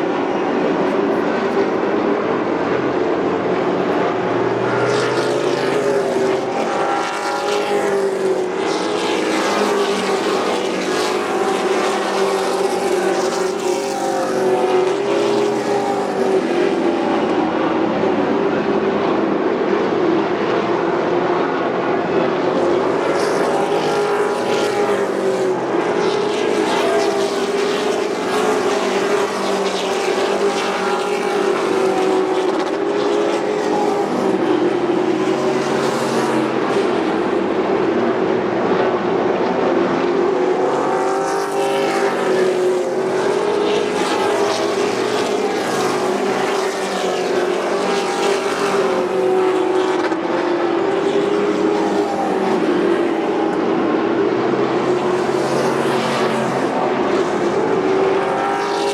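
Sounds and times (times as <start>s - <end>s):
racing truck engines droning: 0.0s - 58.9s.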